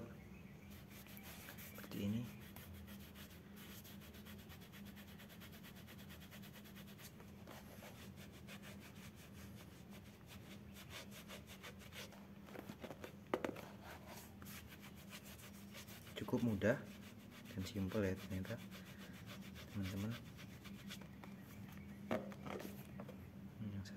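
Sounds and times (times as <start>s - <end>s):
faint steady hum: 0.0s - 23.9s
cloth rubbing on saddle cover: 0.7s - 21.9s.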